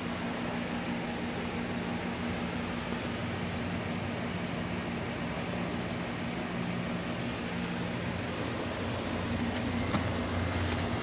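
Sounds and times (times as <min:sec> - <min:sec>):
air conditioner fan rushing: 0:00.0 - 0:11.0.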